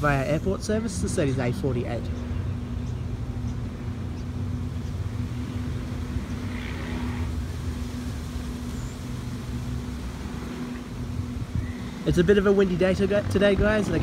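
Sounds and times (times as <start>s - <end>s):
electric train humming: 0.0s - 14.0s.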